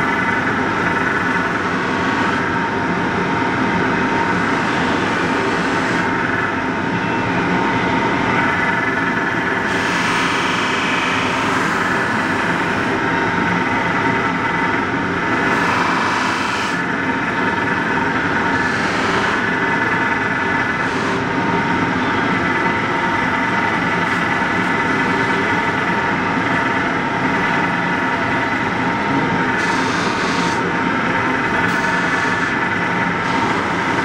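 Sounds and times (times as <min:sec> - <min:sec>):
polishing machine motor hum: 0:00.0 - 0:08.6, 0:09.4 - 0:34.0.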